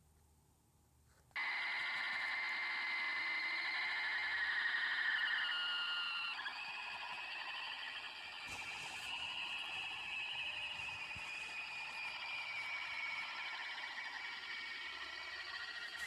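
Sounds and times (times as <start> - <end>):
electronic alarm tone: 1.4 - 16.0.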